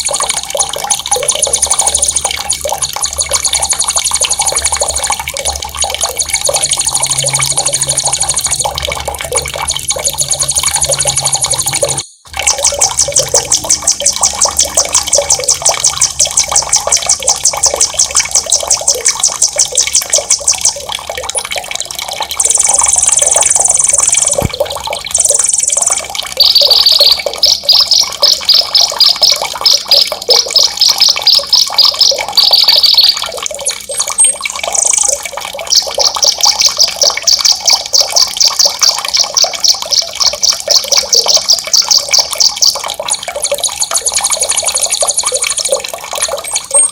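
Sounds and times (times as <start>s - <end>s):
running water: 0.0s - 46.9s.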